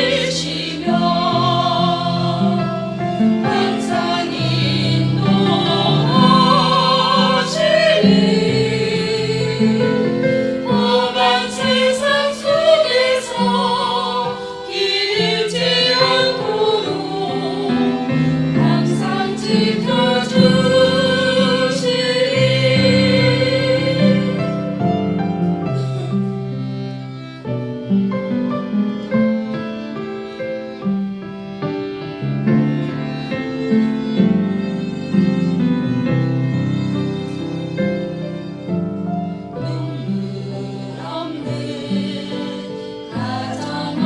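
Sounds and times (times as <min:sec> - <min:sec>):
vocal ensemble singing a hymn: 0:00.0 - 0:27.2, 0:32.8 - 0:44.0.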